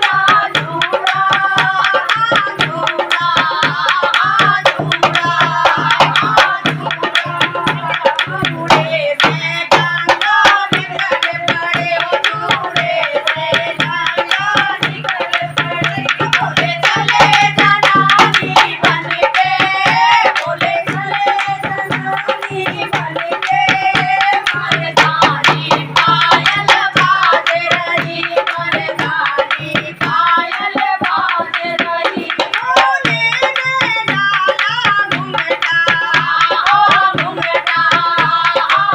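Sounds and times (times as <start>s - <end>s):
fast hand drum: 0.0s - 38.9s
woman singing devotional song: 0.0s - 38.9s.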